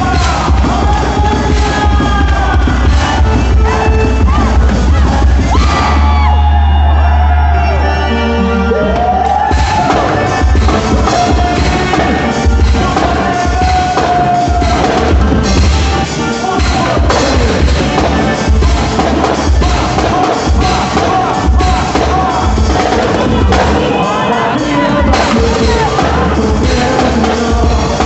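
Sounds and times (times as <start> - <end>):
loud dance music: 0.0 - 28.0.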